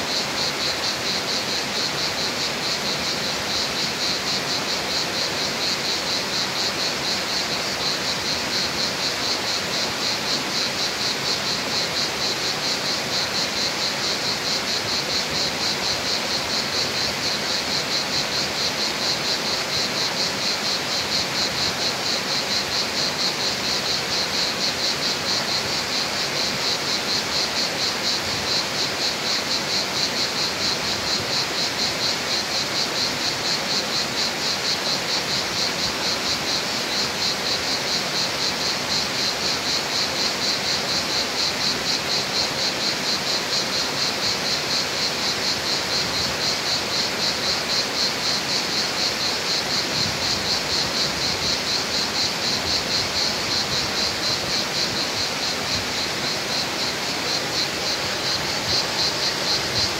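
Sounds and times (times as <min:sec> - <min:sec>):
insect chirring: 0:00.1 - 0:59.9.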